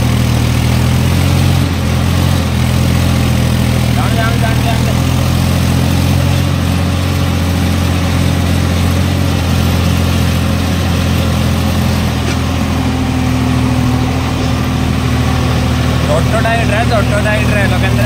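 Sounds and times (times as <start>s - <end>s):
higher hum: 0.0s - 18.0s
tractor diesel engine droning: 0.0s - 18.0s.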